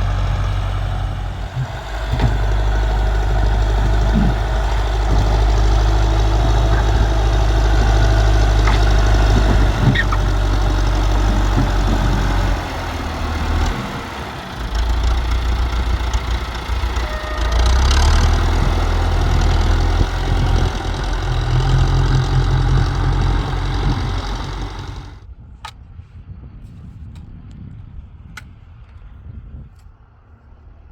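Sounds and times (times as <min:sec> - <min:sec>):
tractor engine running: 0:00.0 - 0:25.7.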